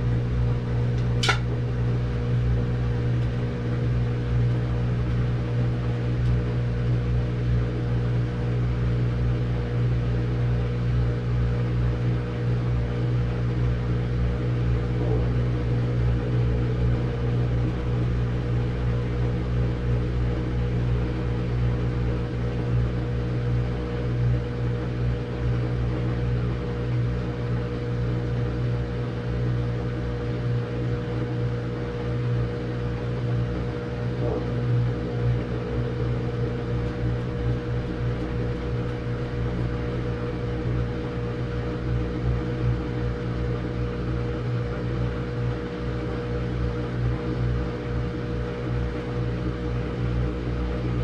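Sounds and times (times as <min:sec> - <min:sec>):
washing machine running: 0:00.0 - 0:51.0.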